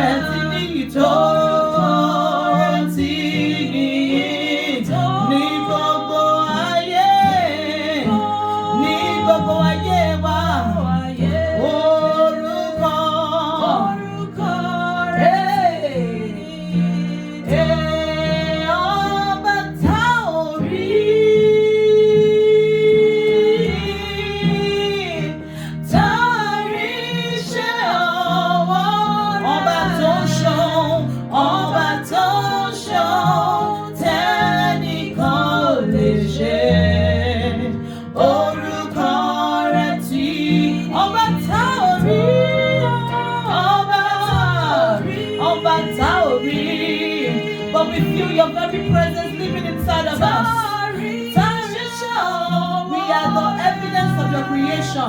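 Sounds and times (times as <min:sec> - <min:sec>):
person singing: 0:00.0 - 0:55.0.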